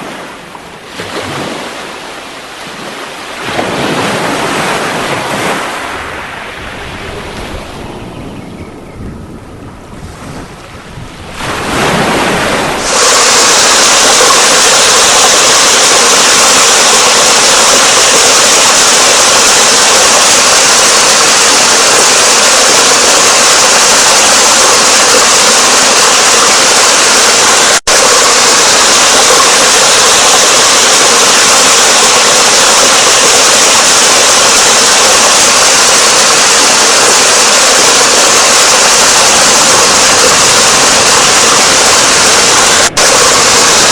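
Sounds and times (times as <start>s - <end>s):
rushing water roar: 0.0s - 43.9s.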